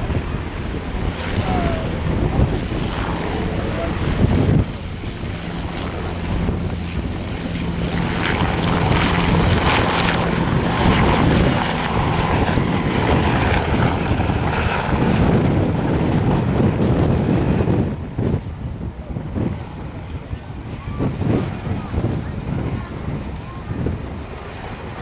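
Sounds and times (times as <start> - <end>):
military aircraft engine and propeller: 0.0 - 25.0.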